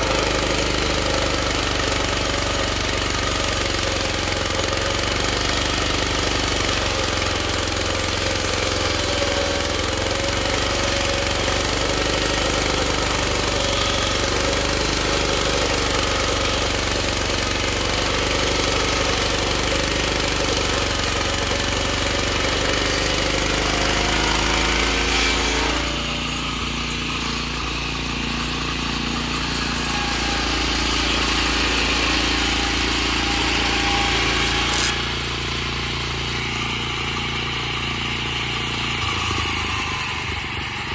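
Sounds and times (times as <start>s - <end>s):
circular saw blade sawing wood: 0.0s - 40.9s
petrol engine running: 0.0s - 40.9s.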